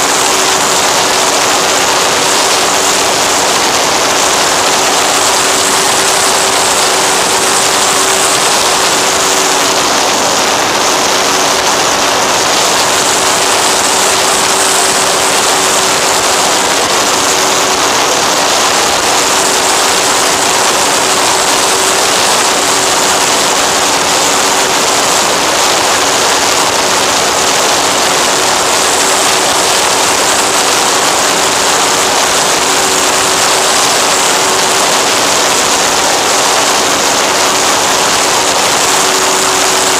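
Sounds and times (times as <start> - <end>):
motor and propeller drone: 0.0 - 39.9.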